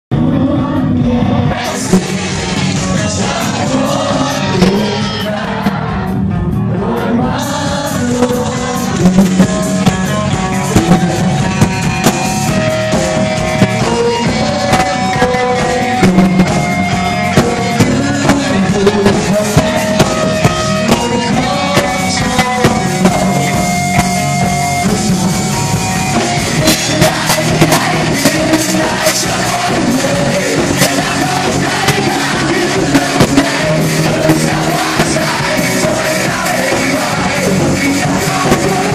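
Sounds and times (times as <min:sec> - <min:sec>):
person singing: 0:00.1 - 0:11.9, 0:12.6 - 0:25.2, 0:26.2 - 0:38.9
drum kit: 0:00.1 - 0:38.9
live rock band playing: 0:00.1 - 0:38.9.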